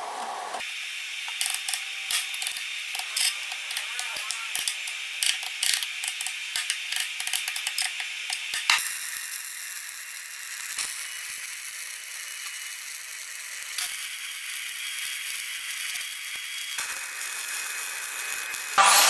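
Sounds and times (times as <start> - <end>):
arc welding crackling hiss: 0.0 - 19.0.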